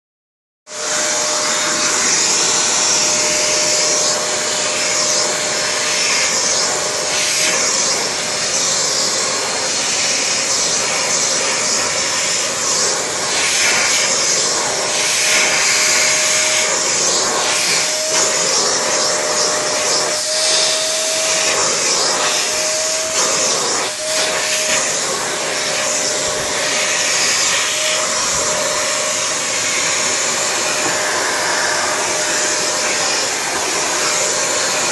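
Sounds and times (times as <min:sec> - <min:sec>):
vacuum cleaner running: 0:00.7 - 0:34.9.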